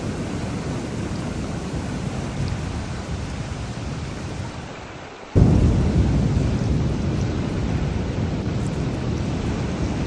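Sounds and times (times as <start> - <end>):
thunder rumble: 0.0 - 4.6, 5.4 - 10.0
heavy rain: 0.0 - 10.0.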